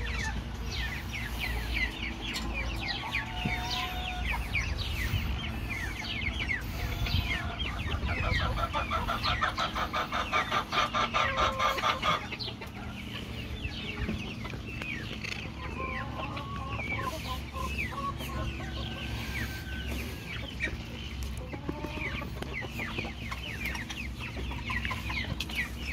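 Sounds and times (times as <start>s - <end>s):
chickens clucking: 0.0s - 25.9s.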